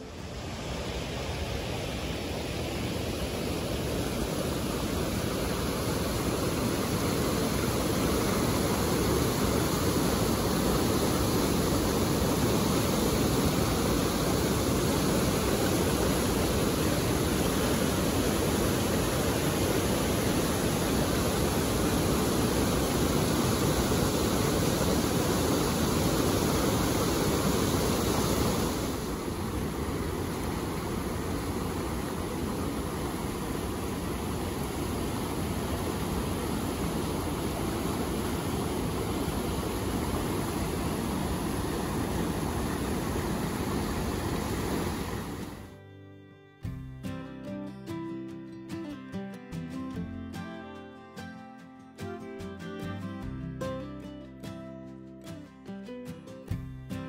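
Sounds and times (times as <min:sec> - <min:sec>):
waterfall and rapids rushing: 0:00.0 - 0:45.8.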